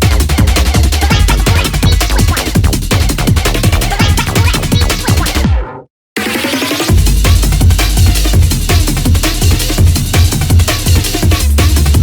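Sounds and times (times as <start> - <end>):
deep bass: 0.0 - 5.5, 6.9 - 12.0
fast chopped breakbeat: 0.0 - 5.6, 6.2 - 12.0
kick drums dropping in pitch: 0.0 - 5.6, 6.9 - 12.0
electronic rave music: 0.0 - 12.0.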